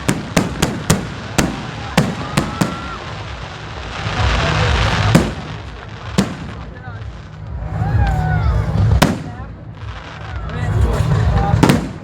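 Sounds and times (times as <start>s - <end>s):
firecrackers banging: 0.0s - 12.0s
firework crackling hiss: 0.0s - 12.0s.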